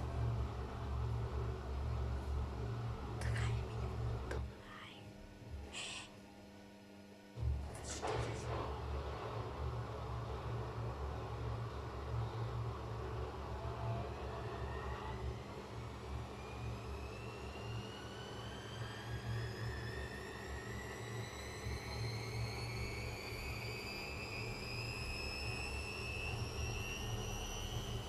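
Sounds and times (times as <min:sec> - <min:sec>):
low hum: 0:00.0 - 0:06.4, 0:07.2 - 0:28.0
washing machine spin whine: 0:00.0 - 0:28.0.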